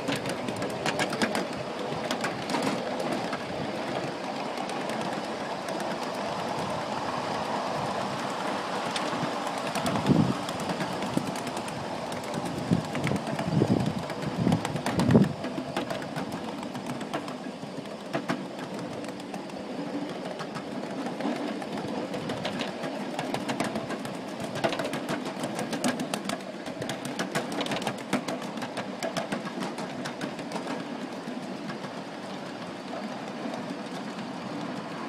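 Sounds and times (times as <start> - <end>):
miniature train rumbling: 0.0 - 35.0
wheels clicking over rail: 0.0 - 35.0.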